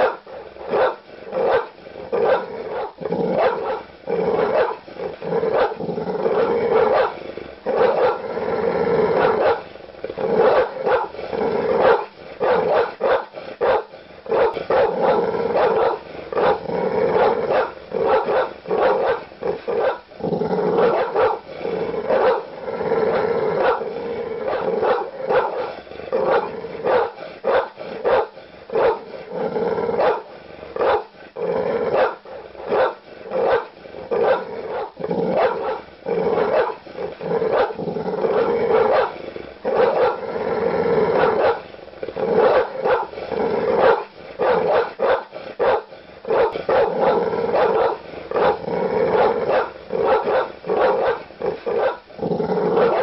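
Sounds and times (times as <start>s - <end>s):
dogs growling: 0.0s - 53.0s
large dogs barking: 0.0s - 53.0s.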